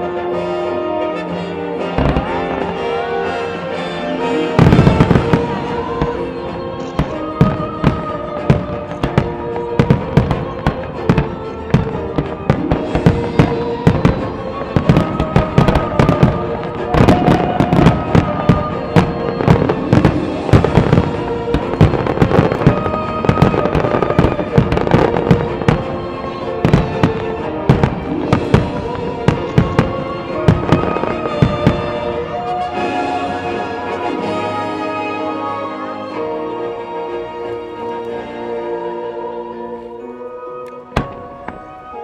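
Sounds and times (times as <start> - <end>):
music: 0.0 - 42.0
fireworks launching and bursting: 1.8 - 34.9, 40.9 - 42.0.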